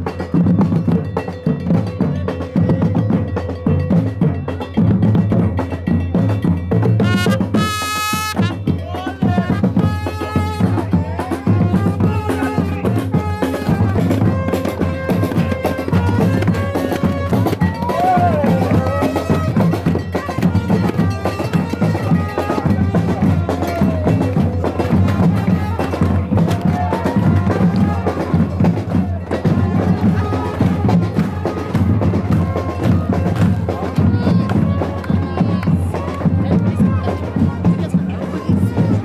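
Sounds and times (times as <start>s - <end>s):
drums and percussion: 0.0s - 39.0s.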